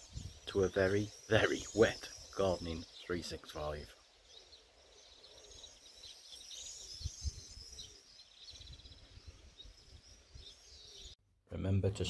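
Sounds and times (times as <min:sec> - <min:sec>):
birds singing and chirping: 0:00.0 - 0:11.2.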